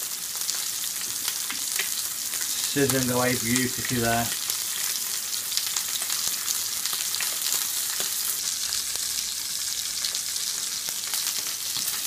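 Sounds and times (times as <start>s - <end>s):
steak sizzling in frying pan: 0.0s - 12.0s.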